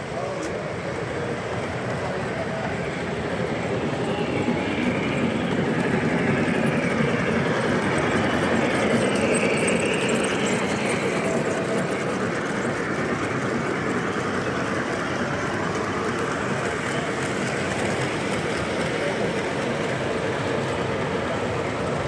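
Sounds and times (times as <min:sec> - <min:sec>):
model trains rumbling on track: 0:00.0 - 0:22.0.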